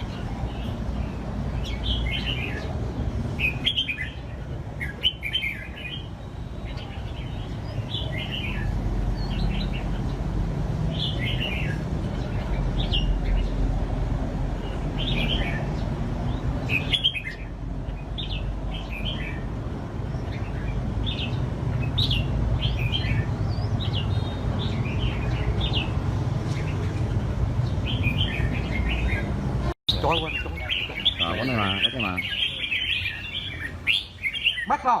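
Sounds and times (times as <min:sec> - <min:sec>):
bulbuls singing chirpy phrases: 0:00.0 - 0:35.0.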